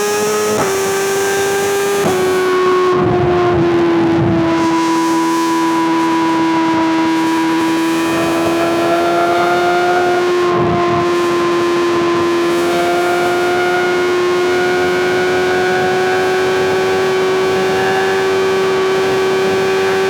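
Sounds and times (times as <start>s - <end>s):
motorcycle engine at high revs: 0.0s - 20.0s
wind and road noise: 0.0s - 20.0s.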